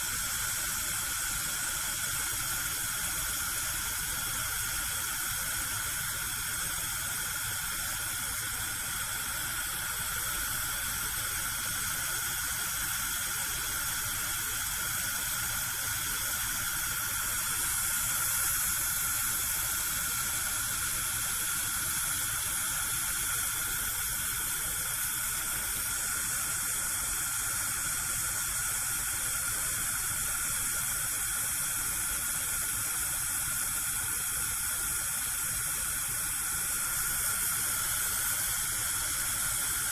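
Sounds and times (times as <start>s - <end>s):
gas burner flame hissing: 0.0s - 39.9s.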